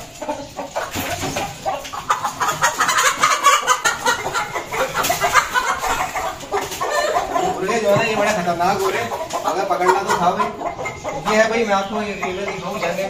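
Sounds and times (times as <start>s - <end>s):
chickens squawking and clucking: 0.0s - 13.0s.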